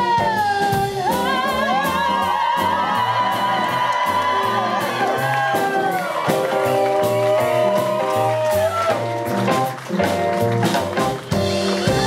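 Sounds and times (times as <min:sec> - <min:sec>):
drum kit: 0:00.0 - 0:12.0
live jazz band playing: 0:00.0 - 0:12.0
upright bass: 0:00.0 - 0:12.0.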